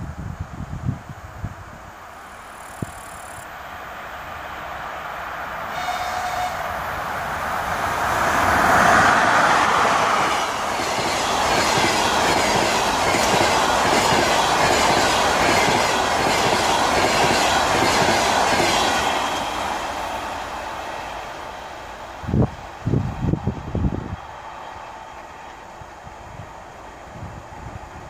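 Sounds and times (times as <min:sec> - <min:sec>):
electric locomotive rushing past: 0:02.5 - 0:28.0.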